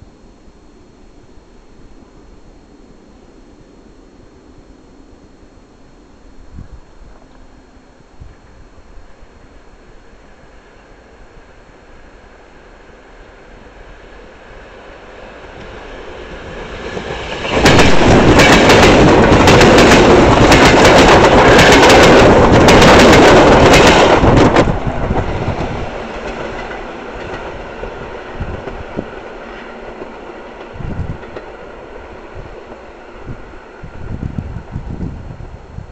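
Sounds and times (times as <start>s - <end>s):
electric train passing: 0.0s - 35.9s.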